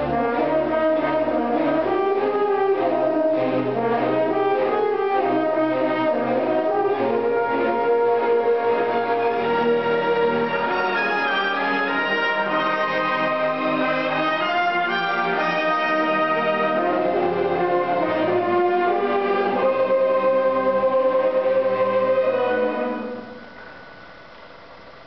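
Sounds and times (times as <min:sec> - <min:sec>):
orchestra playing strings and brass: 0:00.0 - 0:23.9.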